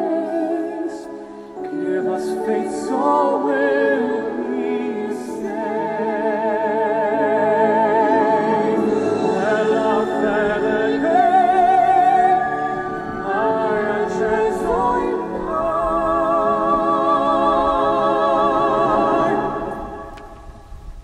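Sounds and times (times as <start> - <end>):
person singing with vibrato: 0.0 - 20.6
musical accompaniment: 0.0 - 21.0.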